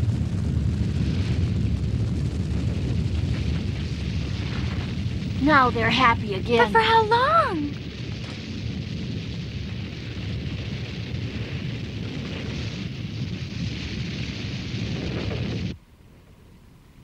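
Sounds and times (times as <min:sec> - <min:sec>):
large fire burning: 0:00.0 - 0:17.0.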